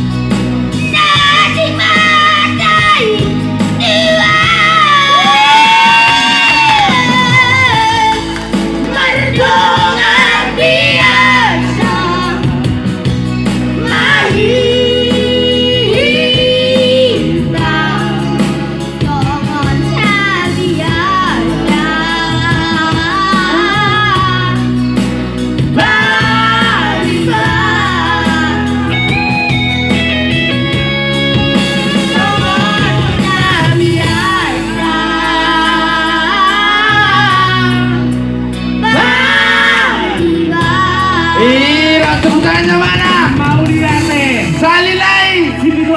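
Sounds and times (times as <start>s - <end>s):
instrumental accompaniment: 0.0s - 45.9s.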